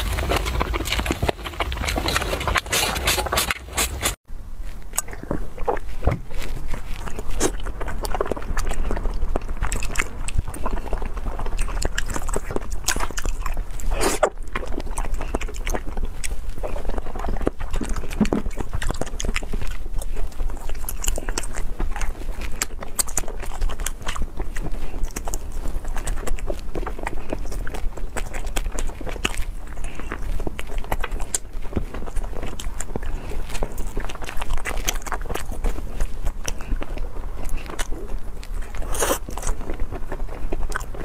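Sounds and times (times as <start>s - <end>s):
chewing jelly sweets: 0.0s - 41.0s.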